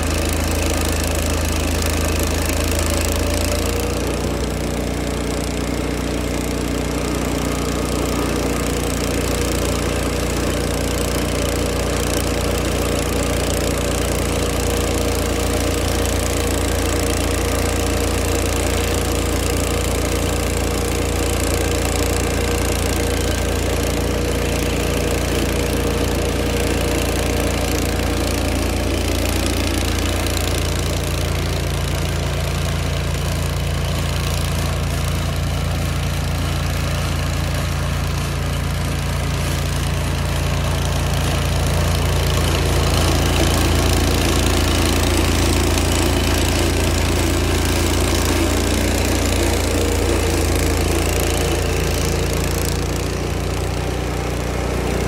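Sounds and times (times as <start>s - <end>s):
stump grinder engine running: 0.0s - 55.0s.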